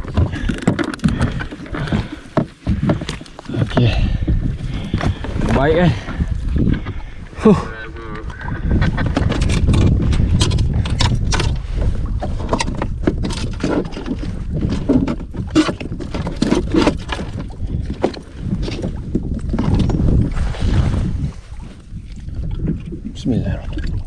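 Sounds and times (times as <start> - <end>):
wind and water rumble: 0.0 - 24.0.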